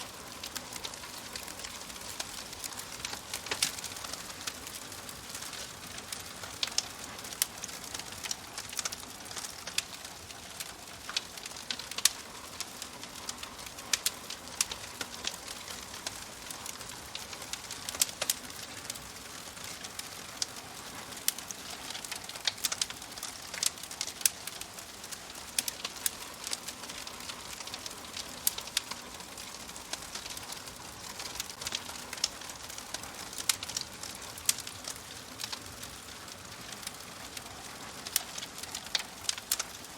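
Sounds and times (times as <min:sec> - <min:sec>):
fire hissing: 0:00.0 - 0:39.9
fire popping and snapping: 0:00.0 - 0:39.9.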